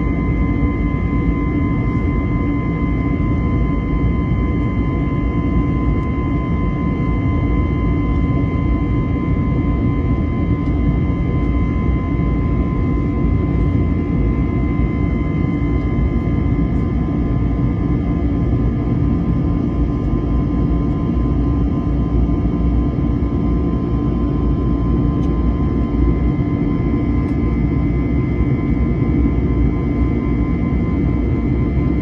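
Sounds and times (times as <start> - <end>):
jet engine cabin rumble and whine: 0.0 - 32.0.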